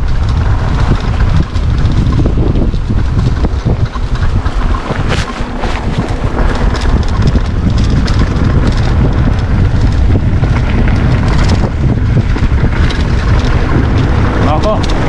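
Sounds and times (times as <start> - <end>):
clicks and knocks over bumps: 0.0 - 15.0
mountain bike rumbling and rattling: 0.0 - 15.0
wind buffeting microphone: 0.0 - 15.0.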